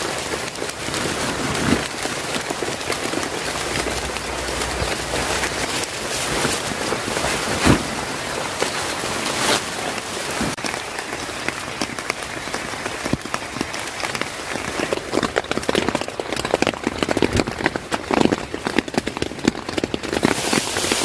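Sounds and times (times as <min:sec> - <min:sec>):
rain hissing: 0:00.0 - 0:19.0, 0:19.8 - 0:21.0
raindrops hitting a surface: 0:00.0 - 0:21.0.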